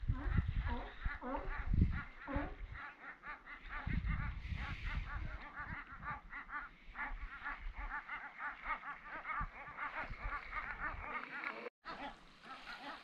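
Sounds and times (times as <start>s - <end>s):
wind rumbling on microphone: 0.0s - 11.6s
chorus of nasal animal calls: 0.2s - 13.0s.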